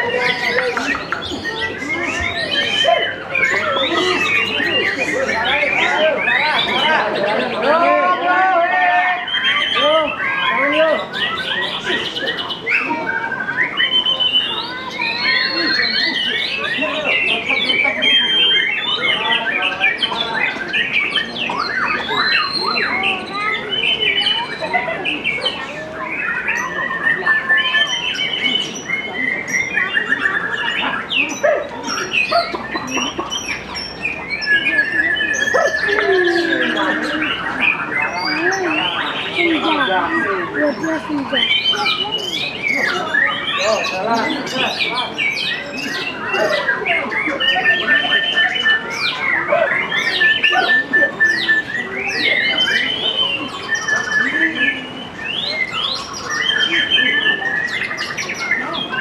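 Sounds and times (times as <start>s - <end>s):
bird singing whistles and trills: 0.0s - 7.1s, 9.2s - 59.0s.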